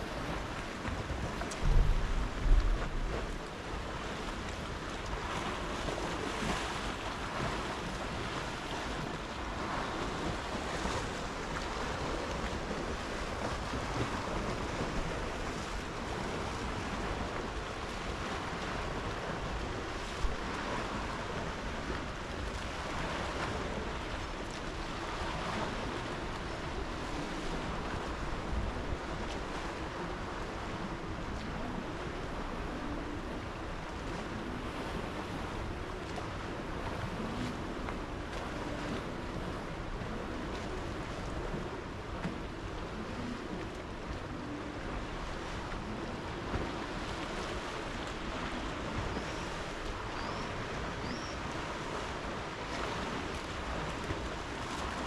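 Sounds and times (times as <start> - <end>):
waves splashing against concrete: 0.0 - 55.0
wind buffeting microphone: 0.0 - 55.0.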